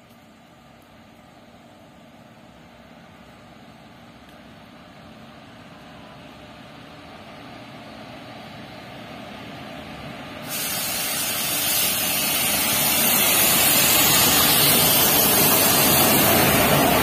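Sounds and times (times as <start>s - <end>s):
freight train humming and rumbling: 0.0s - 17.0s.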